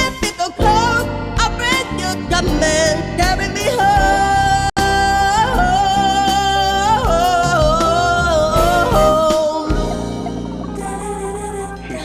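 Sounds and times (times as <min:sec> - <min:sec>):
backing music: 0:00.0 - 0:12.0.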